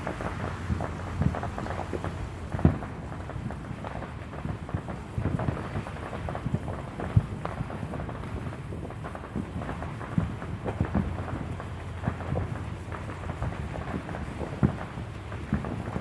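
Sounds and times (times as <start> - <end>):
distant fireworks popping and booming: 0.0 - 16.0
sharp firework bangs: 0.0 - 16.0.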